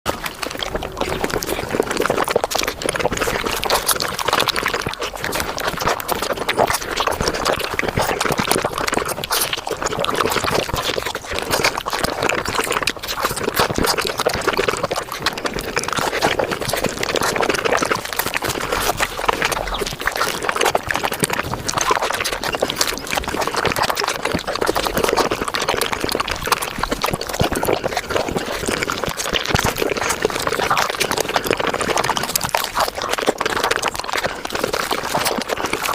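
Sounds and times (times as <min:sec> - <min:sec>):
wet chewing and mouth sounds: 0:00.1 - 0:35.9.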